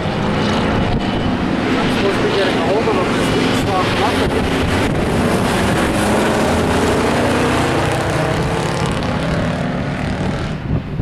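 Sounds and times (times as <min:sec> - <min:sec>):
truck engines racing: 0:00.0 - 0:11.0.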